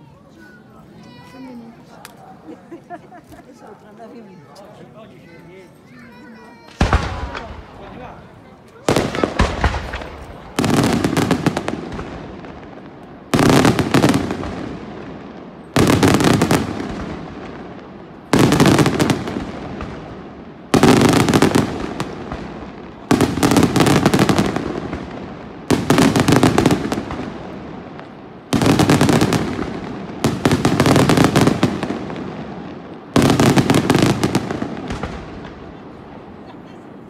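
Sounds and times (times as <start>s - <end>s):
fireworks bursting with sharp cracks: 6.6s - 37.0s.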